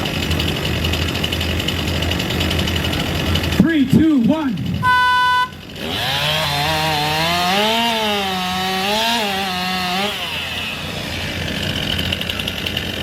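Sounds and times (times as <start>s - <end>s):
chain cutting through log: 0.0s - 3.6s, 5.6s - 13.0s
chainsaw engine at full throttle: 0.0s - 13.0s.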